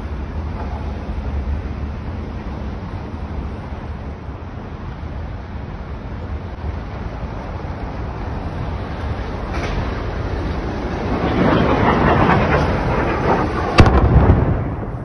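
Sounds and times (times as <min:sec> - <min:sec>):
city ambience rumble: 0:00.0 - 0:15.0
wind buffeting microphone: 0:00.0 - 0:15.0.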